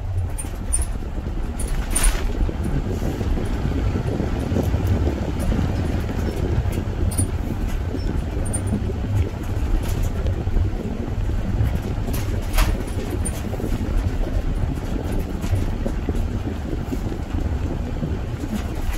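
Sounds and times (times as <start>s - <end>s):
faint ticks and knocks: 0.0s - 18.9s
road and engine rumble: 0.0s - 18.9s.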